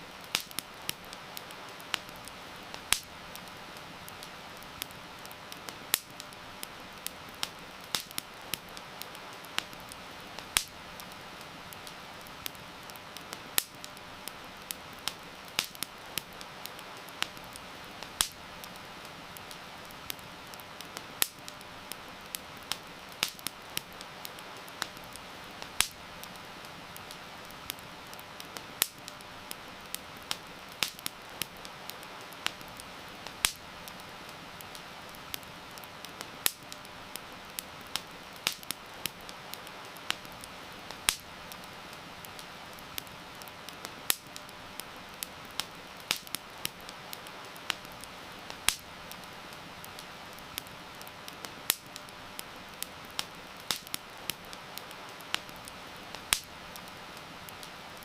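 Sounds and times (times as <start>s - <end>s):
campfire crackling and popping: 0.0s - 58.0s
heavy rain hiss: 0.0s - 58.0s.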